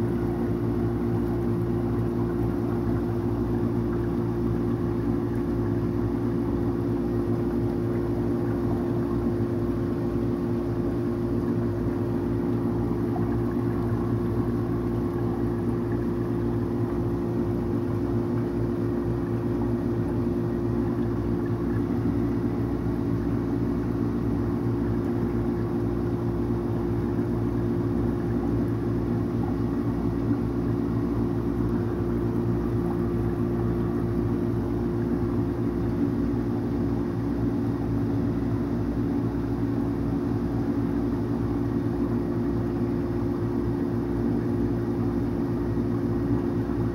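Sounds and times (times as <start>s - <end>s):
aquarium pump motor hum: 0.0s - 46.9s.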